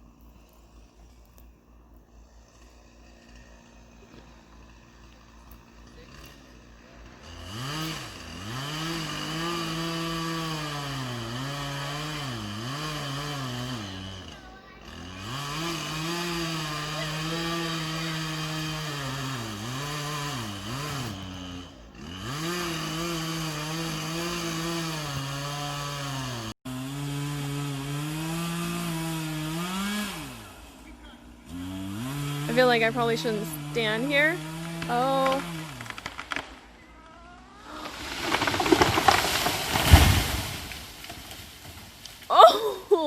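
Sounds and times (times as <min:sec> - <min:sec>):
chainsaw cutting into tree: 0:00.1 - 0:36.8, 0:37.4 - 0:43.0.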